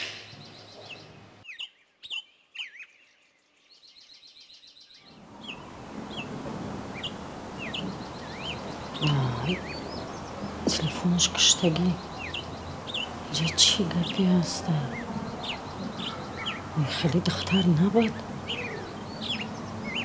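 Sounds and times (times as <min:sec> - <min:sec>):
outdoor background hiss: 0:00.0 - 0:02.4, 0:03.0 - 0:20.0
songbirds chirping: 0:00.0 - 0:20.0.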